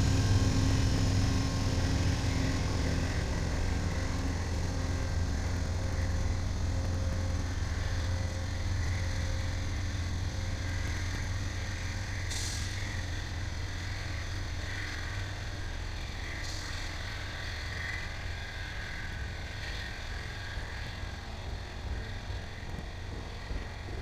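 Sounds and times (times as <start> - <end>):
droning engine tone: 0.0 - 24.0
train rumbling past: 0.0 - 24.0.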